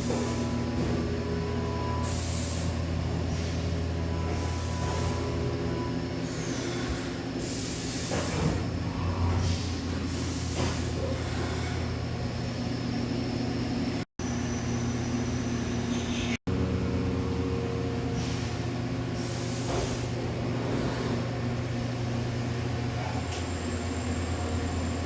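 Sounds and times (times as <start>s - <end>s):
machining center humming: 0.0s - 10.1s, 10.9s - 25.0s.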